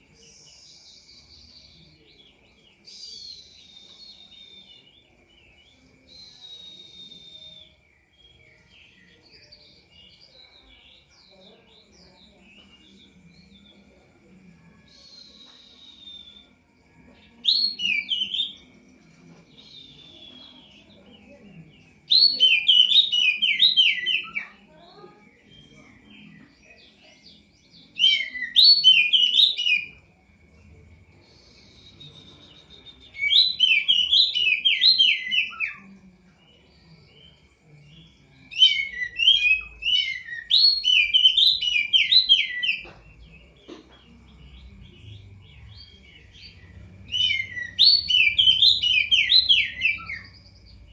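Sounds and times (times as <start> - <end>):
songbird chattering song: 0.0 - 50.9.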